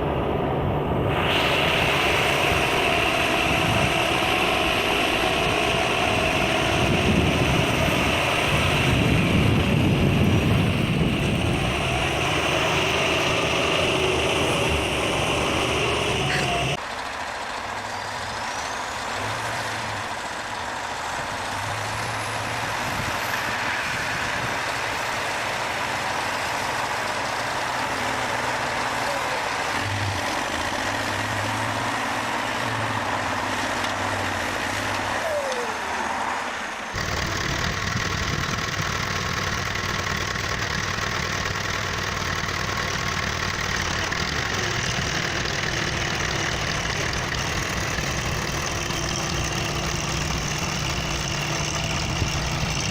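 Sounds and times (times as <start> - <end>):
tractor engines running hard: 0.0 - 52.9.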